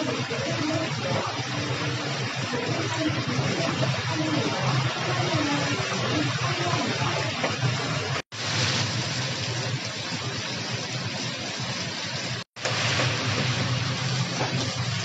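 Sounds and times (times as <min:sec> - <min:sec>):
hot oil sizzling and bubbling: 0:00.0 - 0:15.0.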